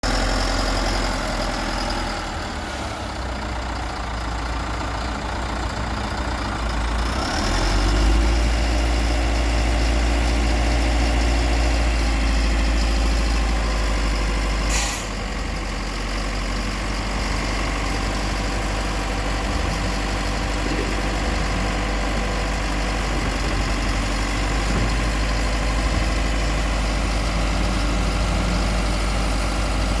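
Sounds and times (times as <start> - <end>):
heavy machine engine rumbling: 0.0 - 30.0.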